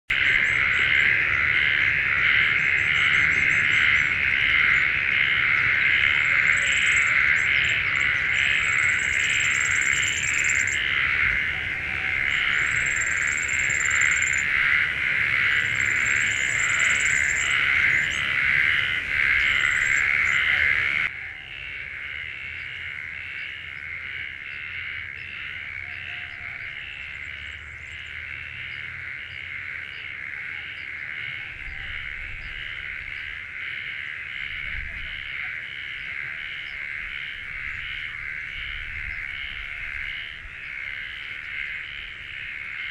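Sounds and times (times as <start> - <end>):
insects calling in pulses: 0.1 - 42.9.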